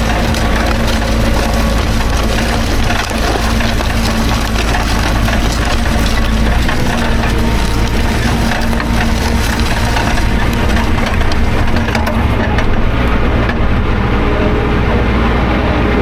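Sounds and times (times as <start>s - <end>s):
dense crackling rattle: 0.0s - 14.2s
tractor engine running: 0.0s - 16.0s.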